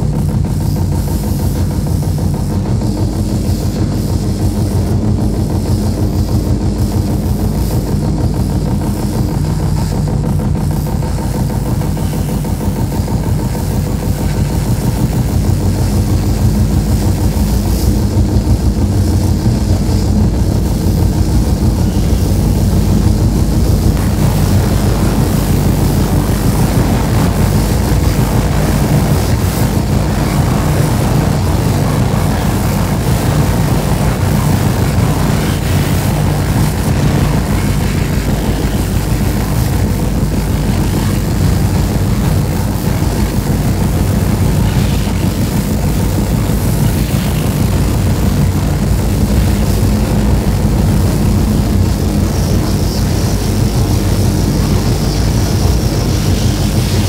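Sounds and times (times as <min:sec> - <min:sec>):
gritty noise: 0:00.0 - 0:57.0
harsh high hiss: 0:00.0 - 0:57.0
low electronic drone: 0:00.0 - 0:57.0.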